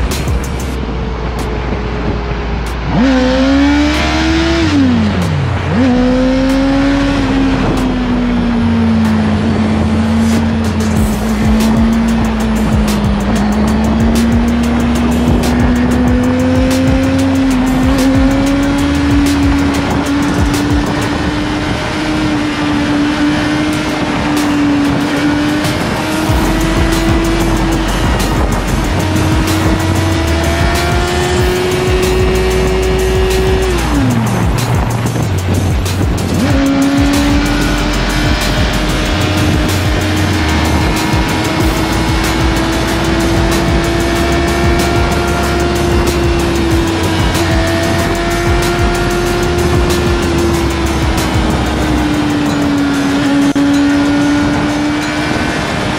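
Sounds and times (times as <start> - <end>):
motorcycle engine revving: 0.0 - 55.9
wind noise: 0.0 - 55.9.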